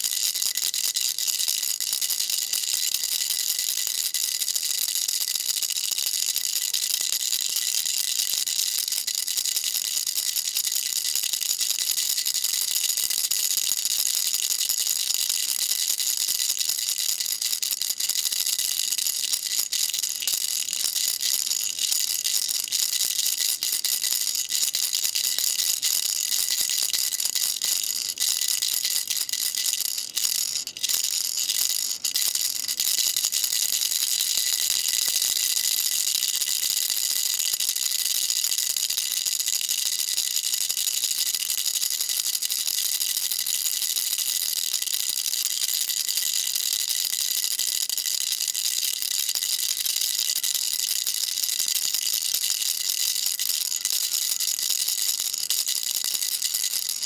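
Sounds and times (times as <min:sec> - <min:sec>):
baby rattle shaken rapidly: 0:06.4 - 0:57.0.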